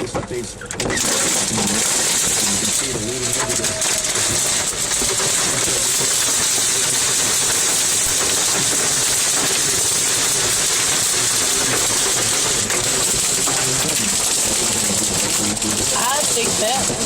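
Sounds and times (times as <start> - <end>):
heavy rain hissing: 1.0 - 17.0.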